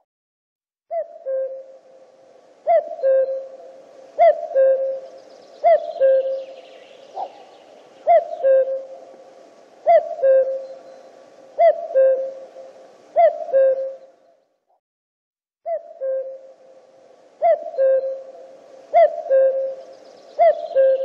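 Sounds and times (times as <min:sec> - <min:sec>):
cuckoo calling: 0:00.9 - 0:14.4, 0:15.7 - 0:21.0.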